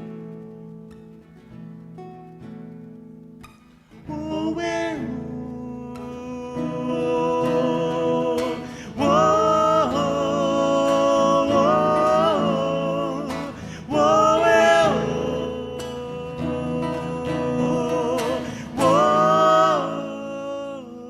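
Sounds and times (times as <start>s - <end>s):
acoustic guitar accompaniment: 0.0s - 21.0s
person singing wordless held notes: 4.0s - 21.0s.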